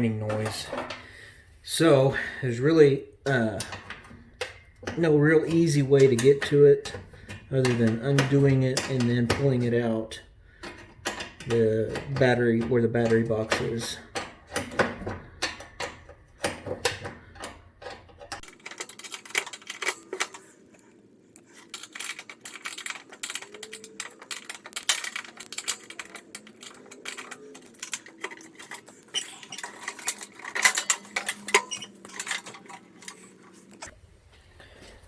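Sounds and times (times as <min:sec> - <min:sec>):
metal tools clicking and clattering: 0:00.0 - 0:02.6, 0:03.3 - 0:20.5, 0:21.4 - 0:33.9.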